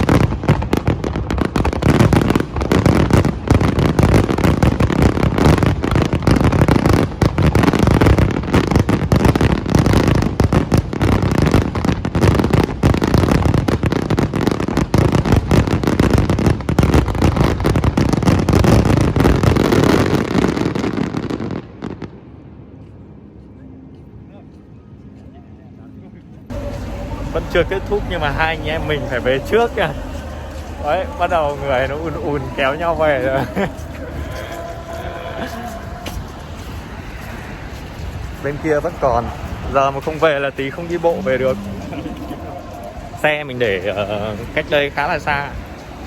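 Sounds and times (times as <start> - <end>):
fireworks bursting: 0.0 - 22.1, 26.5 - 46.0.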